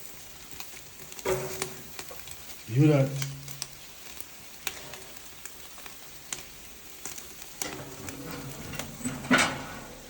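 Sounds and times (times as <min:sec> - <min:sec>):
crackles and pops: 0:00.0 - 0:08.4
meat sizzling: 0:00.0 - 0:10.0.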